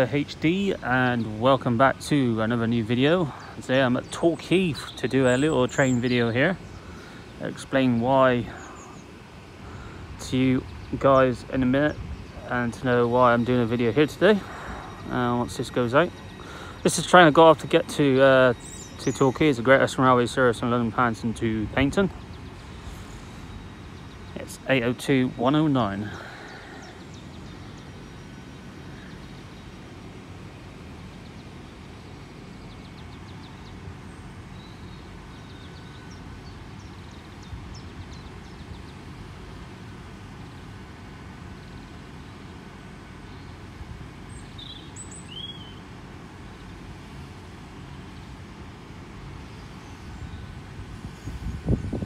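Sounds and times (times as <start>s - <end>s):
bird chirping: 0.0s - 39.5s, 41.6s - 46.9s
train diesel engines humming: 0.0s - 52.0s.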